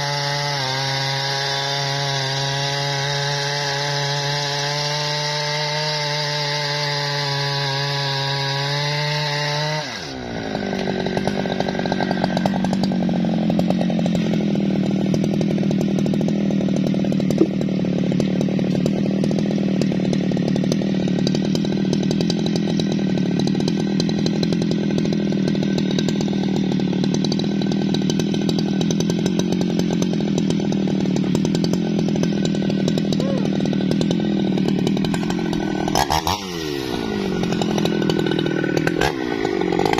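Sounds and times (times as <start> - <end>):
chainsaw cutting and idling: 0.0 - 39.9.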